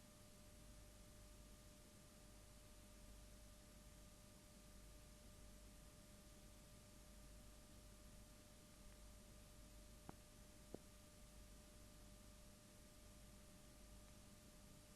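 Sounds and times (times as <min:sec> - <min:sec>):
faint recording hiss: 0:00.0 - 0:14.9
thin steady hum: 0:00.0 - 0:14.9.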